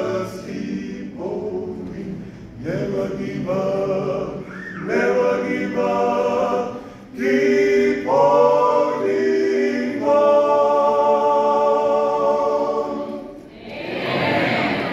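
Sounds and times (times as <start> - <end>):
male a cappella group singing: 0.0 - 14.8.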